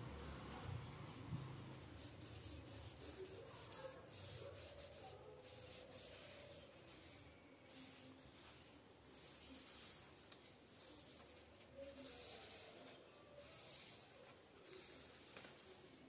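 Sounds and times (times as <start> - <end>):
pad rubbing on a leaf: 1.0 - 16.0.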